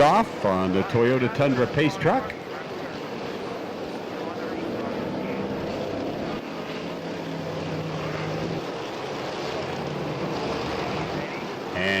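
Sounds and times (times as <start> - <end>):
stock car engines humming: 0.0 - 12.0.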